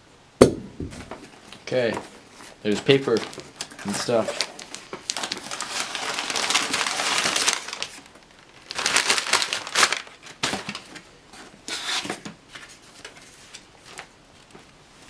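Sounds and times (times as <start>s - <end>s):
packing paper rustling: 0.9s - 14.7s.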